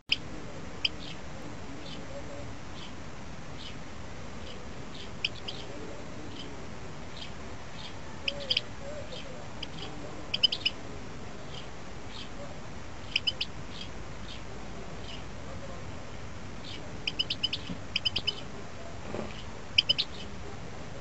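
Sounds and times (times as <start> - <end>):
steady background hiss: 0.0 - 21.0
small birds chirping: 0.1 - 21.0.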